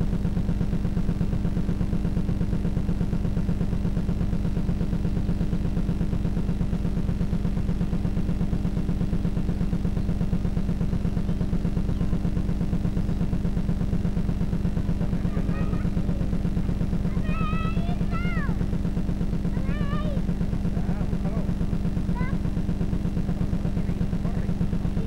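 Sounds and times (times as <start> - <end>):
small motor humming: 0.0 - 25.0.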